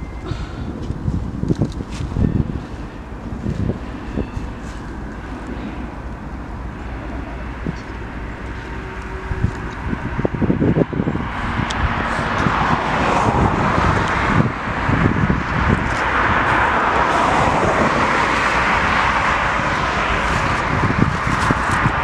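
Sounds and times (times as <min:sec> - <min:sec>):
vehicle passing rolling noise: 0:00.8 - 0:22.0.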